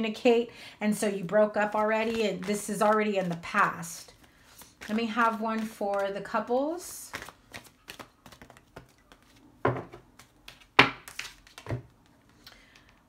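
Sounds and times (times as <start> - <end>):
cards being shuffled: 1.6 - 13.0.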